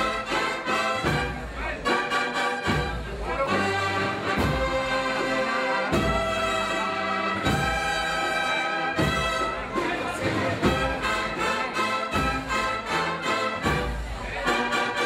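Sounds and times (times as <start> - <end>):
bass drum beat: 0.0 - 1.9, 2.7 - 5.2, 5.9 - 14.4
brass band playing a march: 0.0 - 15.0.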